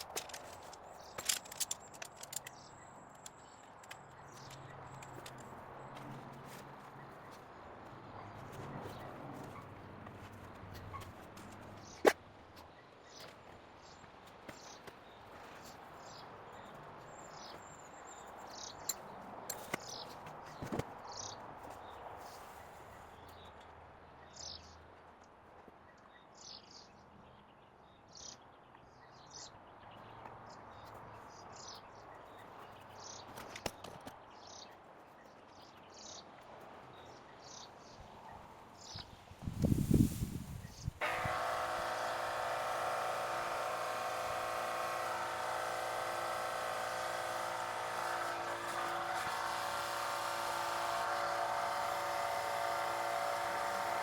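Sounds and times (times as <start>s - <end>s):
faint outdoor background: 0.0s - 54.0s.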